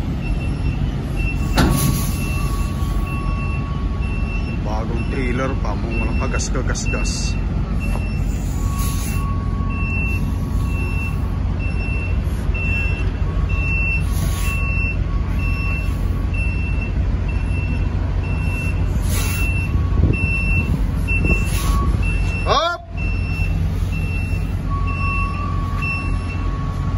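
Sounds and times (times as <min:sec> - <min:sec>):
diesel engine rumble: 0:00.0 - 0:26.9
truck backup alarm beeping: 0:00.0 - 0:26.9.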